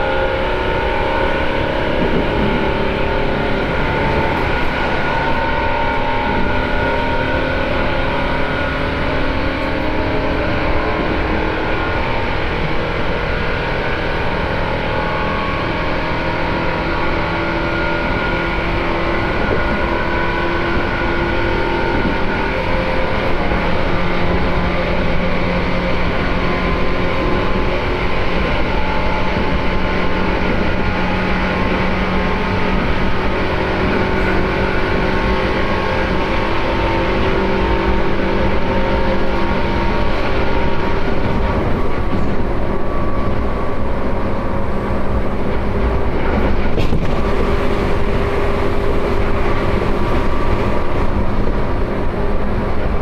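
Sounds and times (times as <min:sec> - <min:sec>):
train rolling rumble: 0:00.0 - 0:53.0
whining traction motors: 0:00.0 - 0:53.0.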